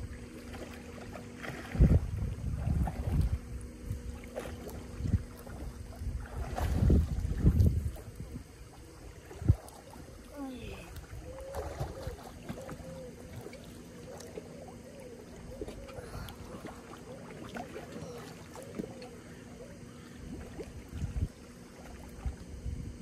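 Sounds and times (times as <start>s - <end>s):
pool water sloshing and lapping: 0.0s - 23.0s.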